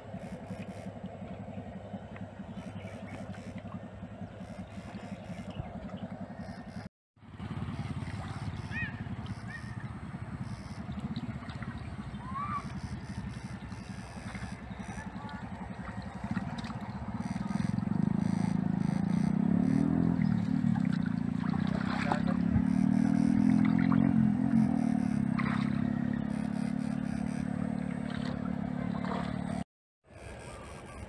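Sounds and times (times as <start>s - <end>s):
mechanical drone: 0.0s - 31.0s.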